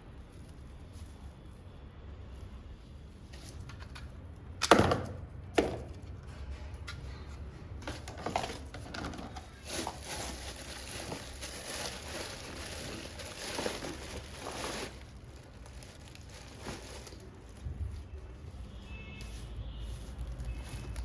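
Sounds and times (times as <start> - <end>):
decorations rustling: 0.0 - 4.5, 5.7 - 21.0.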